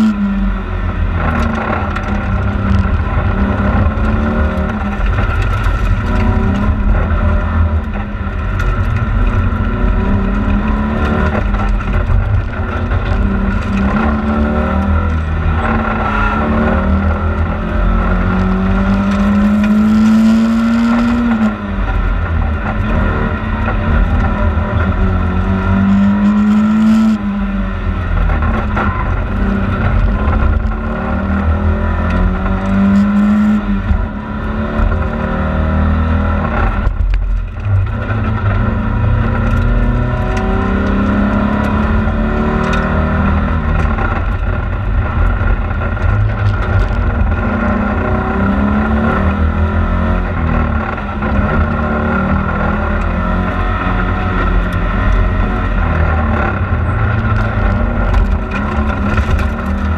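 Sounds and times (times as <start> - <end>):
car engine accelerating: 0.0 - 59.9
tyre and road noise: 0.0 - 59.9.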